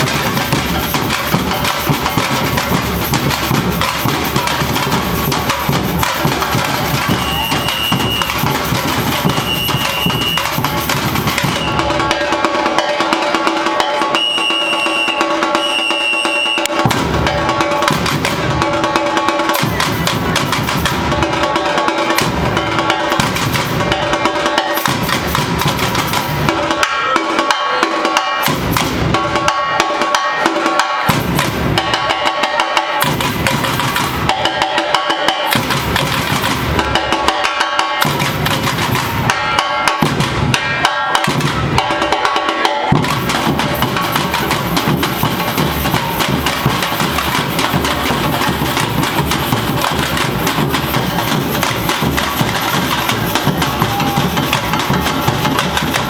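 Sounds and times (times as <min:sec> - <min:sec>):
samba percussion ensemble: 0:00.0 - 0:56.0
snare drums: 0:00.0 - 0:56.0.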